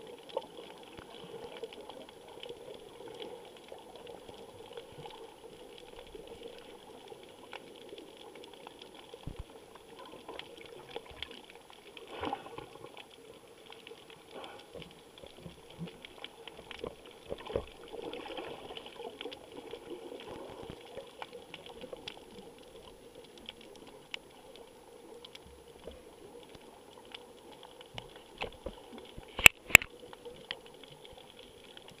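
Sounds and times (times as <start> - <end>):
faint crackles: 0.0 - 32.0
muffled underwater hiss: 0.0 - 32.0.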